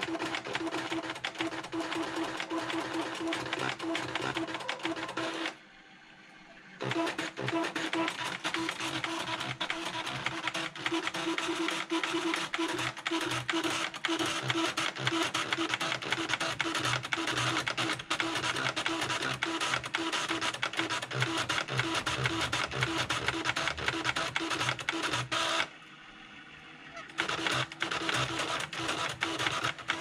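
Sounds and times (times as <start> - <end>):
pen plotter clicking and buzzing: 0.0 - 5.6, 6.8 - 25.7, 27.1 - 30.0.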